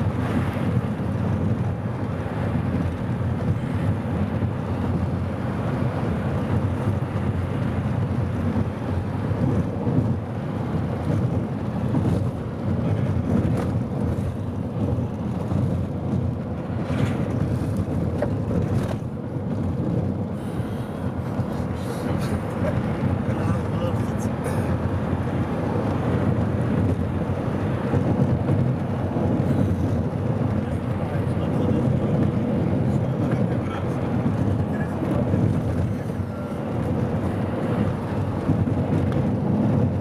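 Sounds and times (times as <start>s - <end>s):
road and wind noise in car: 0.0s - 40.0s.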